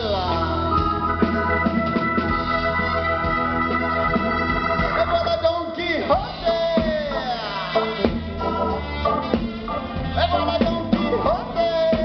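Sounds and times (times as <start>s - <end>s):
double bass: 0.0s - 5.6s, 6.4s - 12.0s
drums: 0.0s - 12.0s
sustained organ chords: 0.0s - 12.0s.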